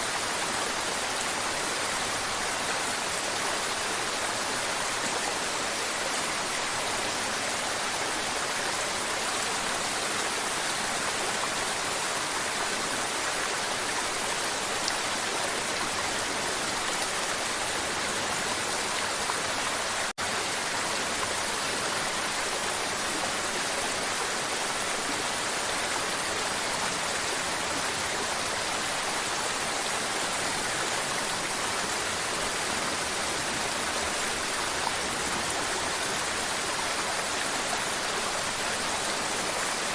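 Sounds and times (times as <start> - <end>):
river water flowing and babbling: 0.0 - 39.9.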